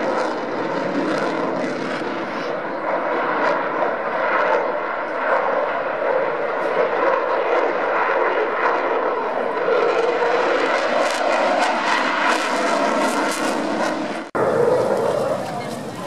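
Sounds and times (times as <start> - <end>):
jet engine roaring in afterburner: 0.0 - 16.0.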